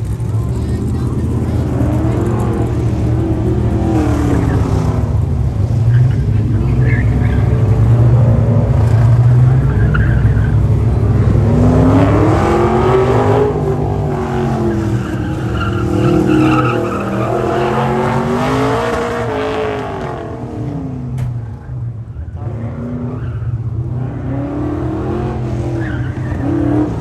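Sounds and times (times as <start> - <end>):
tire squeal: 0.0 - 8.0, 9.3 - 10.9, 11.9 - 20.3, 21.5 - 24.1, 24.9 - 27.0
car engine revving: 0.0 - 27.0.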